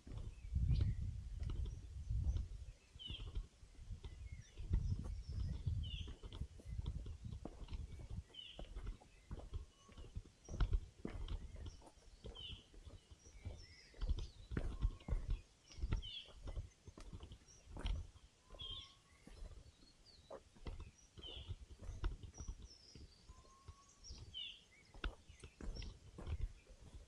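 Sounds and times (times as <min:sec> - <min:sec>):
footsteps on forest trail: 0:00.0 - 0:27.0.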